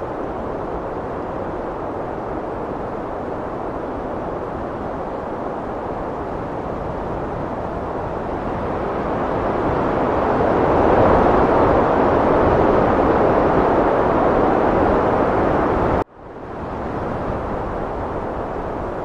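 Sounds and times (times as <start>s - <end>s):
heavy wind rushing: 0.0s - 19.0s.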